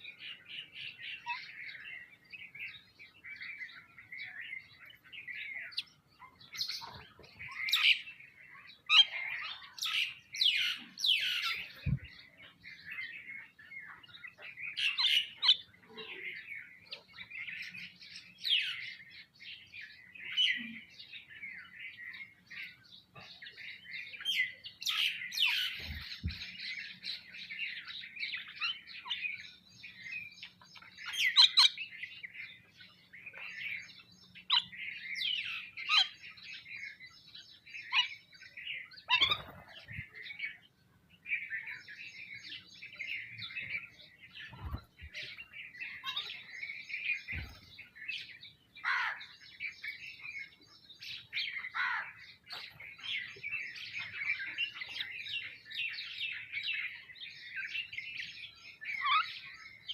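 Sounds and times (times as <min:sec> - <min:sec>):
sparrows and mynas chirping: 0:00.0 - 0:59.9.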